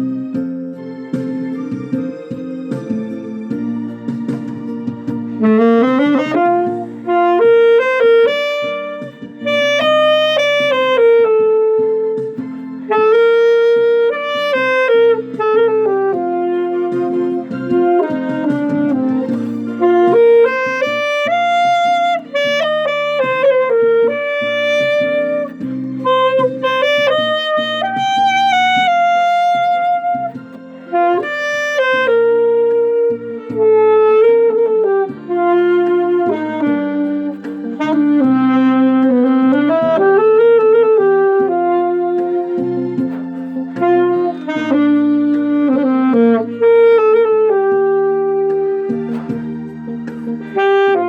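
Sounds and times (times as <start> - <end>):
alto saxophone ballad melody: 0.0 - 51.0
sustained low backing chords: 0.0 - 51.0.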